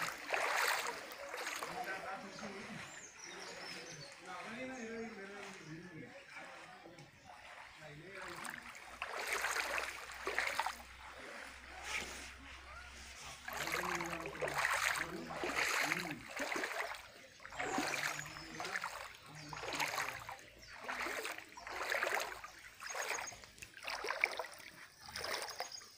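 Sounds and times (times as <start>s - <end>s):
floodwater sloshing and splashing: 0.0s - 25.9s.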